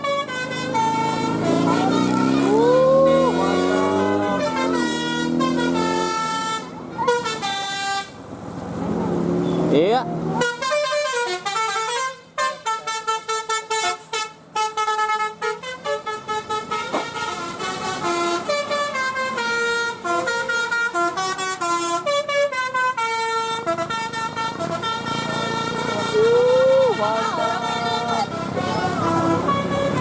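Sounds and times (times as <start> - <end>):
musical air horn melody: 0.0 - 8.2, 10.3 - 30.0.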